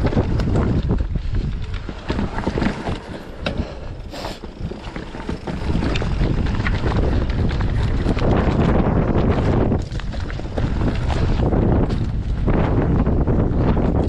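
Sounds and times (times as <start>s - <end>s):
mountain bike rattling on trail: 0.0s - 14.0s
wind buffeting microphone: 0.0s - 14.0s.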